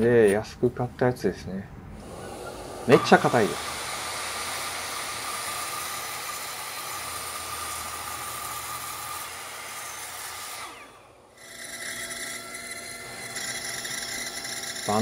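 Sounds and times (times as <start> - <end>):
miter saw cutting wood: 2.0 - 15.0.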